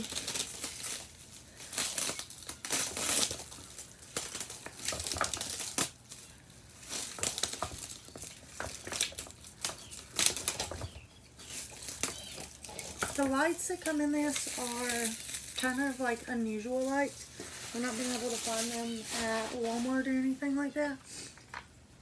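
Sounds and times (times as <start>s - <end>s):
packing material crinkling: 0.0s - 21.0s.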